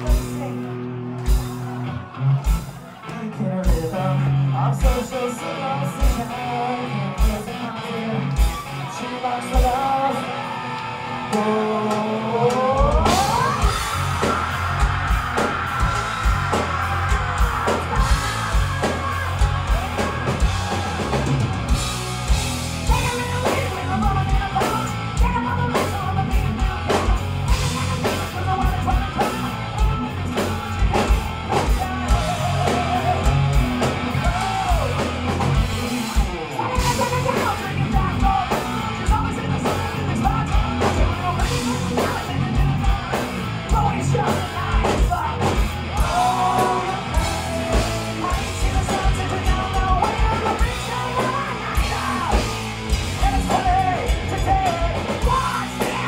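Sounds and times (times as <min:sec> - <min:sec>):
drum kit: 0:00.0 - 0:06.6, 0:11.3 - 0:56.0
electric guitars: 0:00.0 - 0:56.0
man singing: 0:02.8 - 0:21.5, 0:22.8 - 0:56.0.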